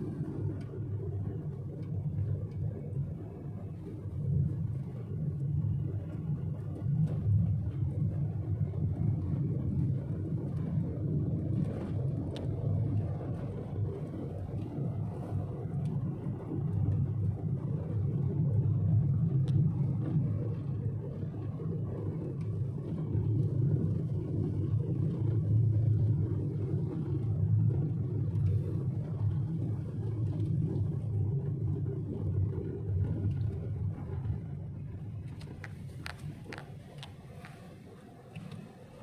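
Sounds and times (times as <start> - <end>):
car road noise from inside cabin: 0.0 - 39.0.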